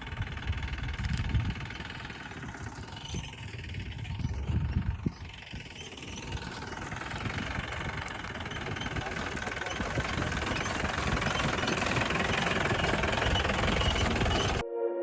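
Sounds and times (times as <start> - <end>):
engine running with knocking: 0.0 - 14.6.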